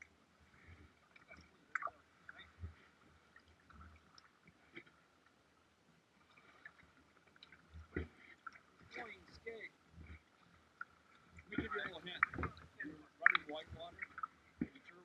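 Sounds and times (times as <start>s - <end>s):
paddle splashes and drips: 0.0s - 15.0s.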